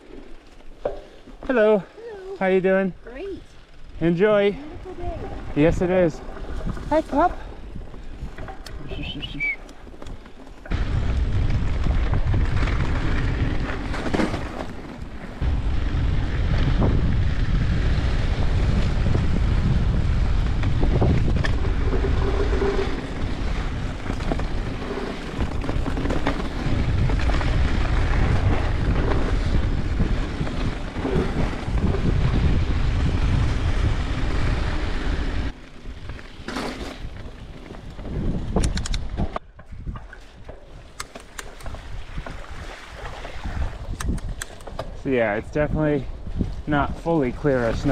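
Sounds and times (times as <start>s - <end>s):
wind buffeting microphone: 3.1s - 14.2s, 15.1s - 36.2s, 37.0s - 47.9s.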